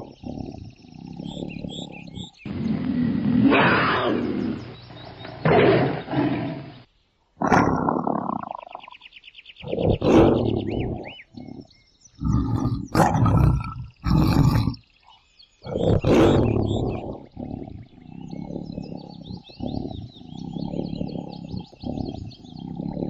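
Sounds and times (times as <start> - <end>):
tiger roaring and growling: 0.0 - 6.8, 7.4 - 8.8, 9.6 - 14.8, 15.6 - 23.0.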